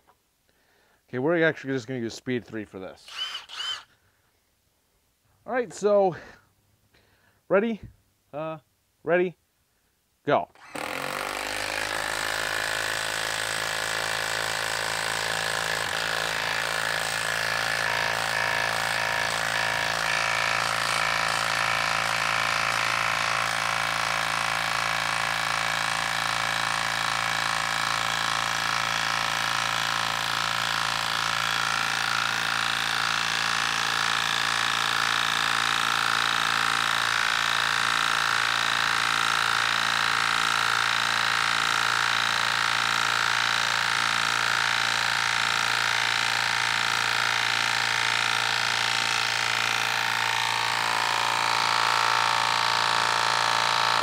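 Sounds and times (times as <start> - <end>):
impact wrench hammering: 10.6 - 54.0.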